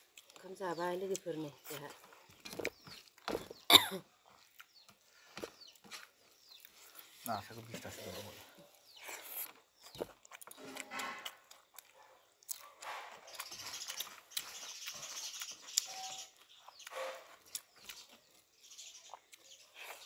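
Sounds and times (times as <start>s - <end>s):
person chewing food: 0.0s - 0.4s, 1.1s - 7.3s, 8.6s - 20.0s.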